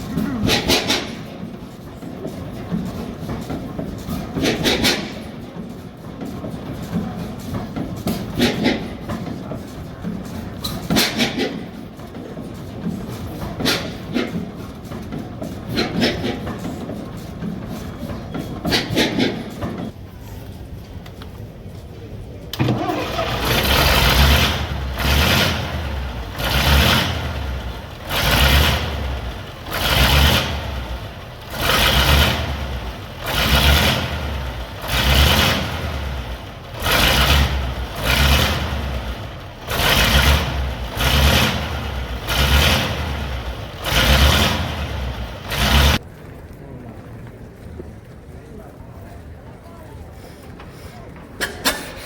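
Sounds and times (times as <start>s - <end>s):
old engine exhaust puffing: 0.0s - 20.6s, 22.5s - 46.1s, 50.5s - 52.0s.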